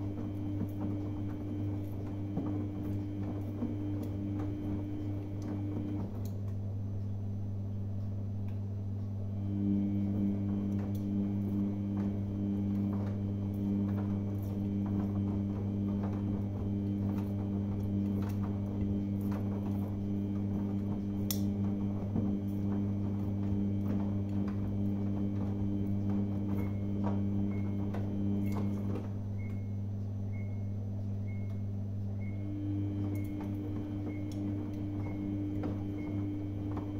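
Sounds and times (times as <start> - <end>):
laundry tumbling knocks: 0.0 - 6.2, 9.9 - 29.3, 32.8 - 36.9
washing machine drum humming: 0.0 - 36.9.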